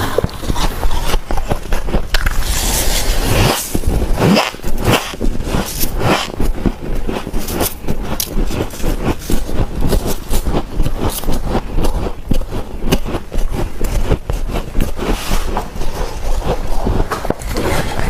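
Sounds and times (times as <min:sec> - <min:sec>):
frost chunks crunching: 0:00.0 - 0:18.0.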